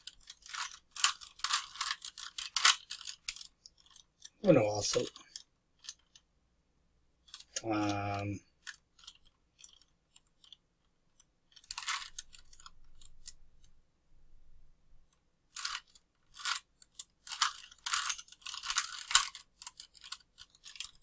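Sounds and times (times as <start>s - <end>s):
puzzle cube layers clicking: 0.0s - 6.3s, 7.2s - 13.7s, 15.5s - 21.0s.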